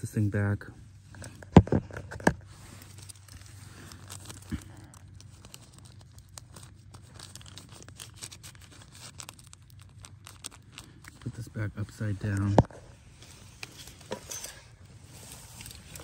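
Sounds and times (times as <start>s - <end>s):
low steady hum: 0.0s - 16.0s
paper crinkling and rustling: 1.1s - 16.0s.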